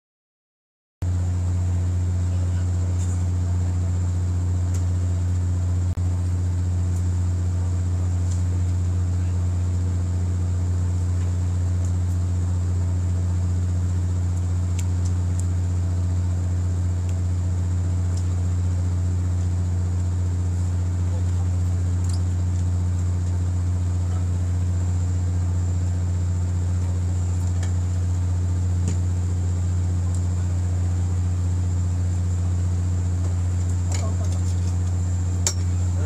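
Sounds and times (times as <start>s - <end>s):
boat engine hum: 1.0s - 36.0s.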